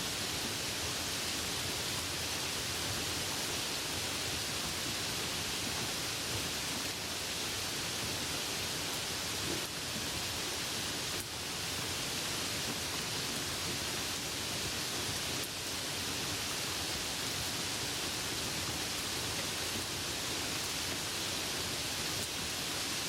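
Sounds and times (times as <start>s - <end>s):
light rain hissing: 0.0s - 23.0s.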